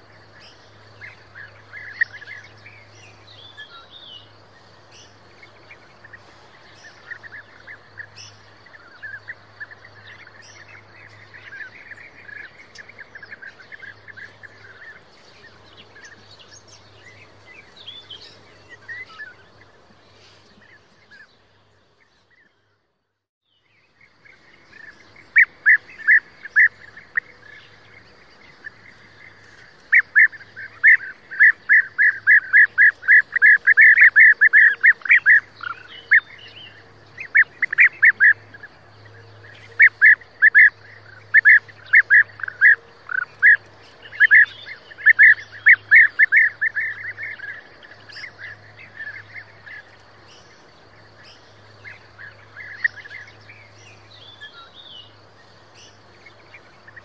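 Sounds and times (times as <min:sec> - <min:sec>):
birds rolling calls: 0:00.0 - 0:21.6, 0:24.1 - 0:57.0.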